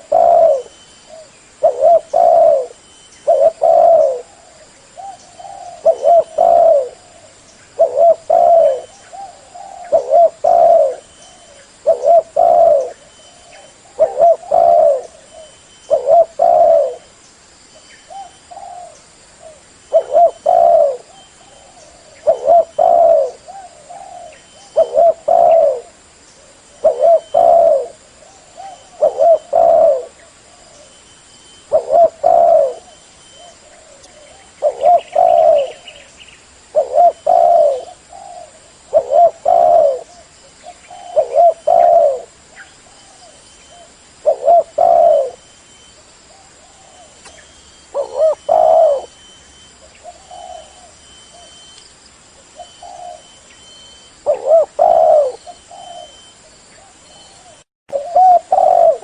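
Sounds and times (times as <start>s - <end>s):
dove cooing: 0.0s - 17.1s, 18.1s - 36.1s, 36.7s - 45.5s, 46.3s - 51.7s, 52.4s - 59.0s.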